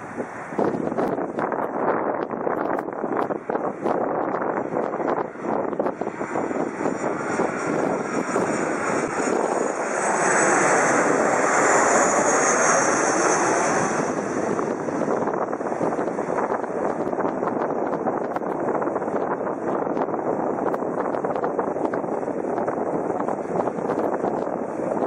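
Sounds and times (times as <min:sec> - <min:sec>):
airliner engines passing overhead: 0:00.0 - 0:25.0
wind buffeting microphone: 0:00.0 - 0:25.0.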